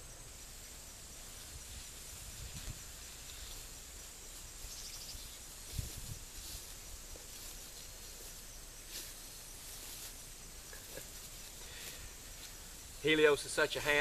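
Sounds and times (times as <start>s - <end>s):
insect trill: 0.0s - 14.0s
insects chirring: 0.0s - 14.0s.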